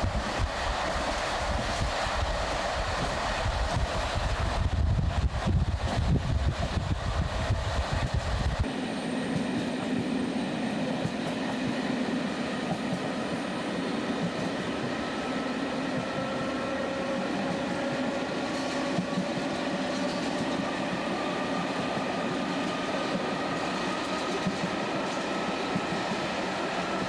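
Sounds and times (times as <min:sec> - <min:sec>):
train running noise: 0:00.0 - 0:27.0.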